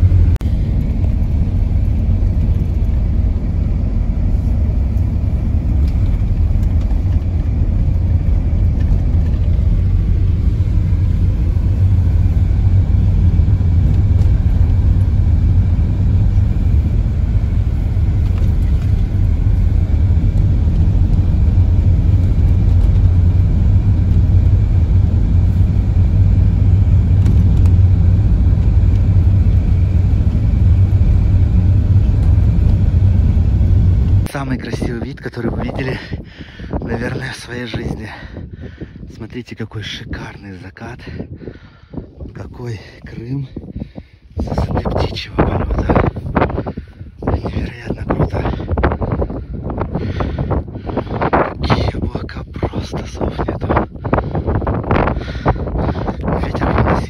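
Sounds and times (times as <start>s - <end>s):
heater fan blowing: 0.0s - 39.2s, 41.1s - 57.0s
engine and road rumble: 0.0s - 57.0s.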